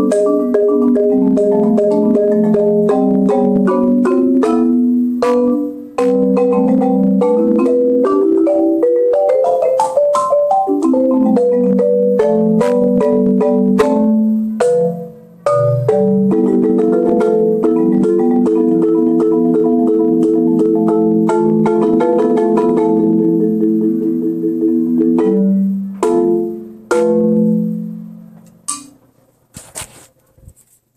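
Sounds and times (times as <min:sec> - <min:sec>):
marimba played with mallets: 0:00.0 - 0:29.0.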